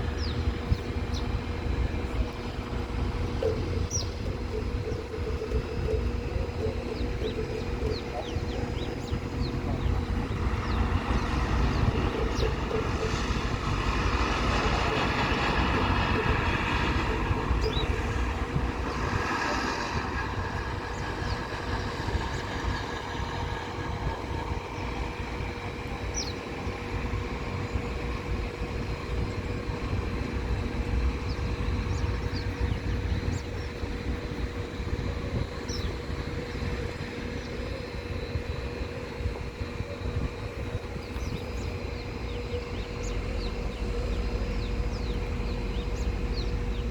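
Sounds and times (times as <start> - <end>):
jet engine rumble and whine: 0.0 - 46.9.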